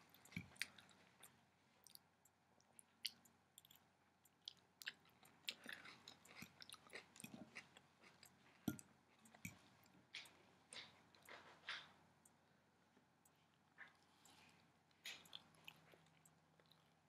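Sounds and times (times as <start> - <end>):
faint chewing crunches: 0.0 - 12.4, 13.0 - 17.0.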